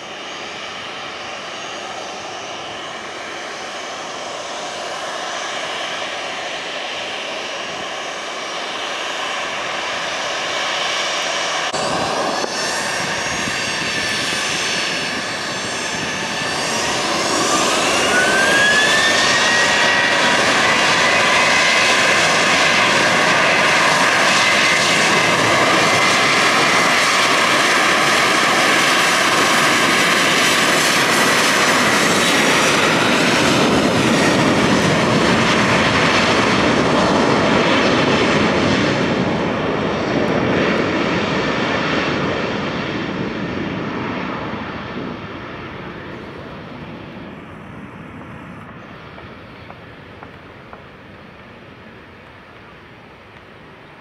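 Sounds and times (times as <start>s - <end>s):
high engine whine: 0.0s - 54.0s
jet engines at takeoff: 0.0s - 54.0s.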